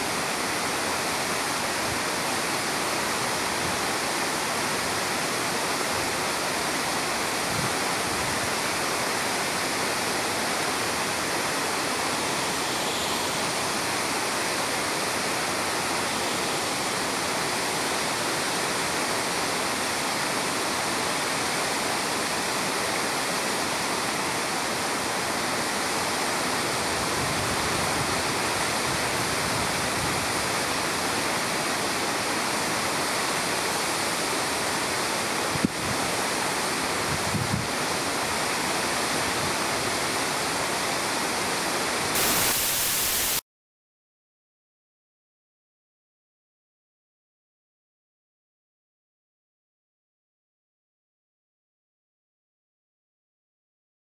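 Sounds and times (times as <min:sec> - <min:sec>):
water rushing over weir: 0:00.0 - 0:43.4.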